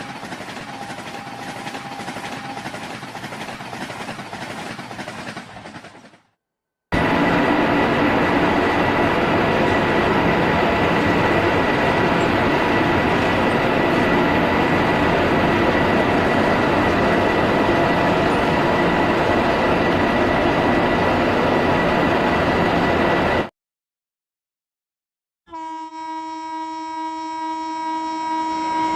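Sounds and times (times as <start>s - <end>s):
moving train rumbling: 0.0s - 23.5s.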